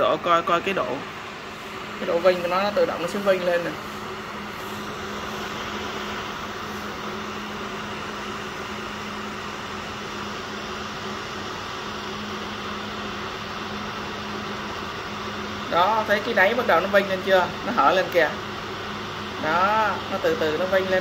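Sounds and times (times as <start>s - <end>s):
cooling fan rushing: 0.0s - 21.0s.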